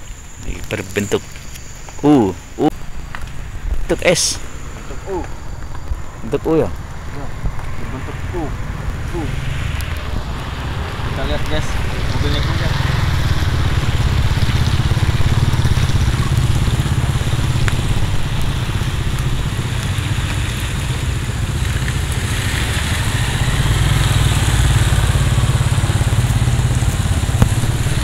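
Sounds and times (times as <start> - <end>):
car engines passing: 0.0 - 28.0
steady low rumble: 0.0 - 28.0
tyres hissing on wet road: 0.0 - 28.0.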